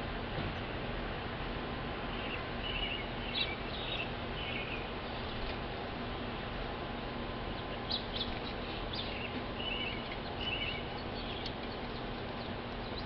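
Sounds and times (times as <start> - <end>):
songbirds chirping: 1.7 - 13.0.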